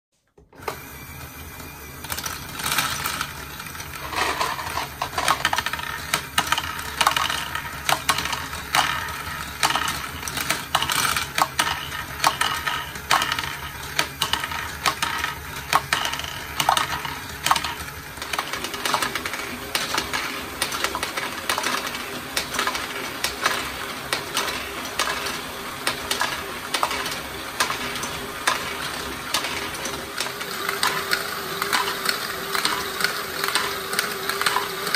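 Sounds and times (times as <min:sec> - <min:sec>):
mechanical hum: 0:00.2 - 0:34.9
plastic balls clicking and clattering: 0:02.0 - 0:34.9.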